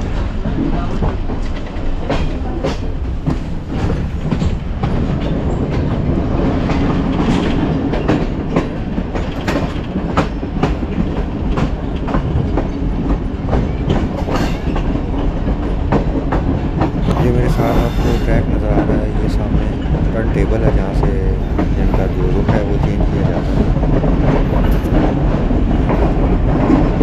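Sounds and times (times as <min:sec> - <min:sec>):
train rumbling along track: 0:00.0 - 0:27.0
wheels clacking over rail joints: 0:00.0 - 0:27.0.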